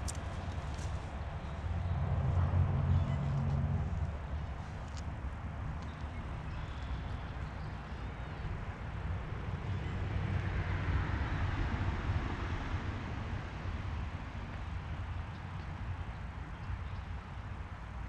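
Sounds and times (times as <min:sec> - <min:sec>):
vehicle rumble with road noise: 0:00.0 - 0:18.0.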